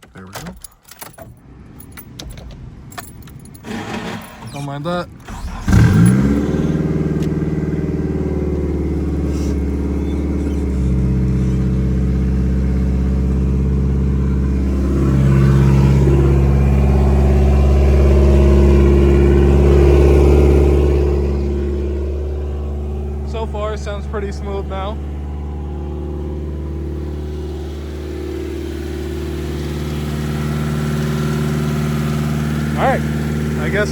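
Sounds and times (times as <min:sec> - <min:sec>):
car engine fast idling: 0:03.6 - 0:33.9.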